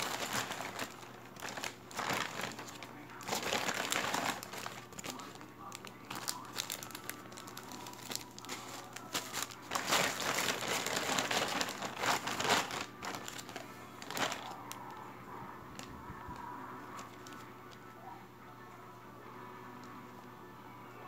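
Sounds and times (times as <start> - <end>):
plastic bags crinkling: 0.0 - 15.1, 15.7 - 17.8.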